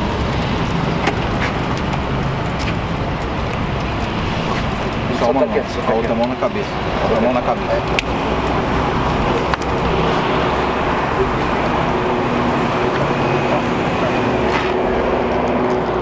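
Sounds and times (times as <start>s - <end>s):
street and vehicle noise: 0.0s - 16.0s.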